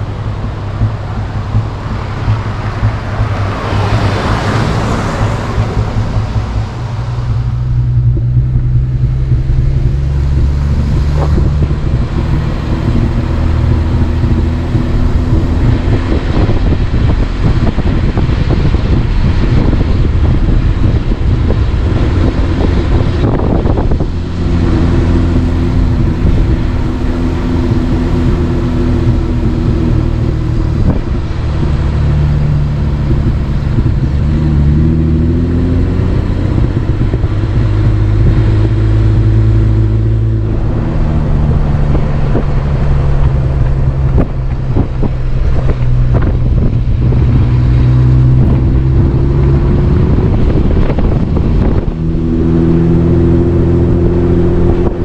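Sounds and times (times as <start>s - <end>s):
car engine and tyre noise: 0.0s - 55.0s
rushing swell of noise: 0.0s - 55.0s.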